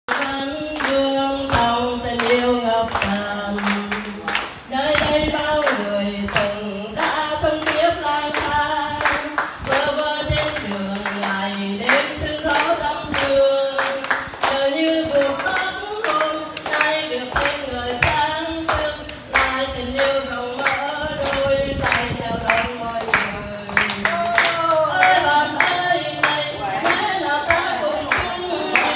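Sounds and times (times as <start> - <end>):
elderly woman singing into microphone: 0.1 - 28.9
people clapping along: 0.1 - 28.9.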